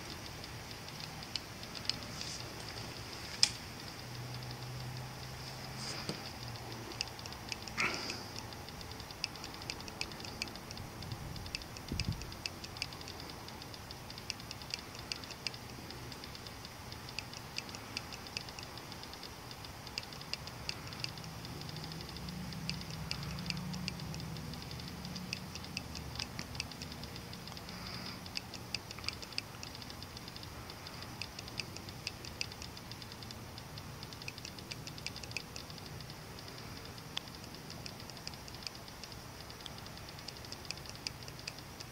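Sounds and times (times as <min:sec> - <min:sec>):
night insects buzzing and ticking: 0:00.0 - 0:41.9.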